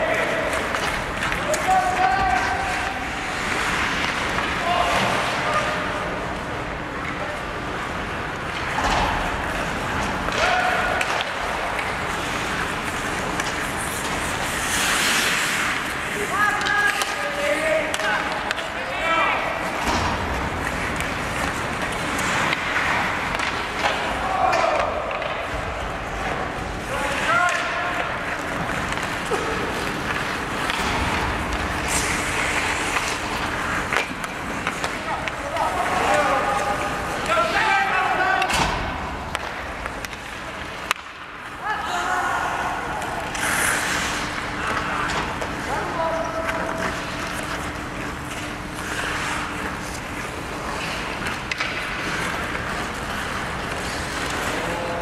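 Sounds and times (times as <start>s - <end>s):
stick and puck clacks: 0.1s - 42.1s, 42.8s - 55.0s
skates scraping on ice: 0.1s - 55.0s.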